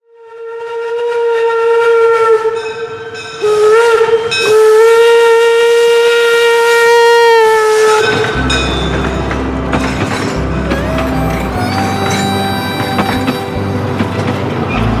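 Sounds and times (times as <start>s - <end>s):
steam locomotive whistle: 0.0s - 15.0s.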